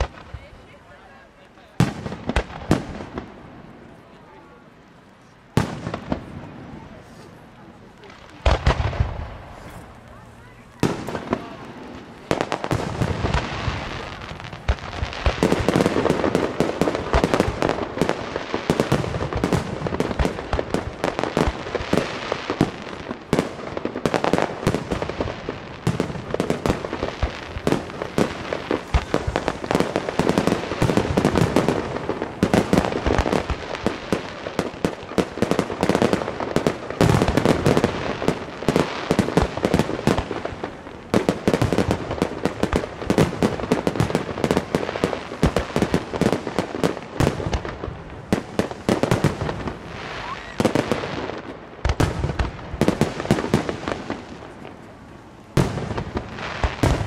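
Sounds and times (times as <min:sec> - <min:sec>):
fireworks booms: 0:00.0 - 0:04.4, 0:05.5 - 0:57.0
fireworks bangs and cracks: 0:00.0 - 0:57.0.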